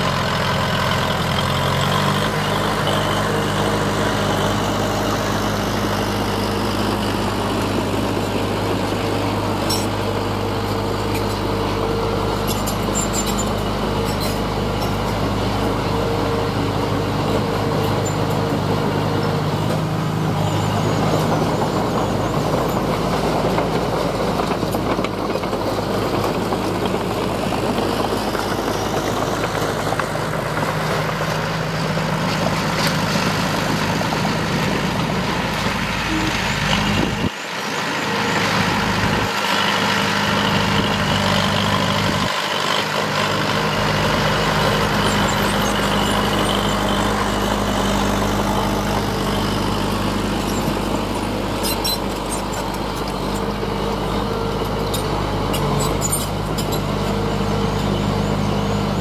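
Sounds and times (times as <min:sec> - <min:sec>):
heavy diesel engines rumbling: 0:00.0 - 0:59.0.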